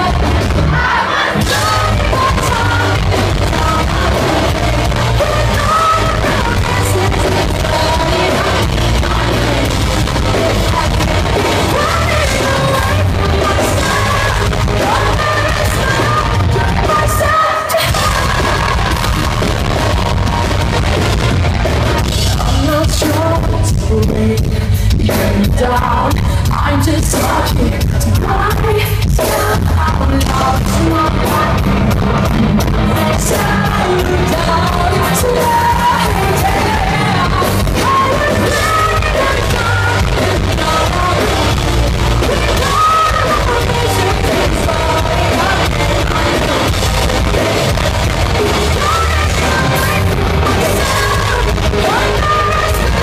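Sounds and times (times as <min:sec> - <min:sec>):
woman singing: 0:00.0 - 0:21.3, 0:21.9 - 0:53.0
bass guitar: 0:00.0 - 0:53.0
drums: 0:00.0 - 0:53.0
electric guitar: 0:00.0 - 0:53.0.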